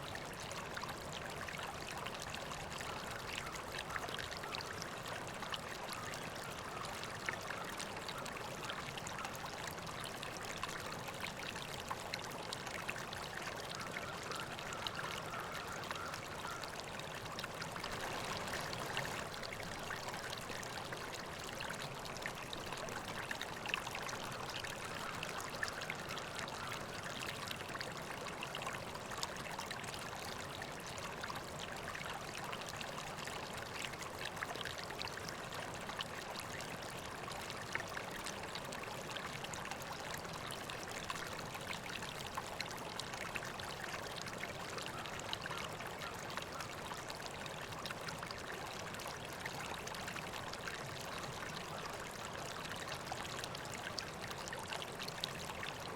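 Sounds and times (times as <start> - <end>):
river water flowing over stones: 0.0 - 55.9.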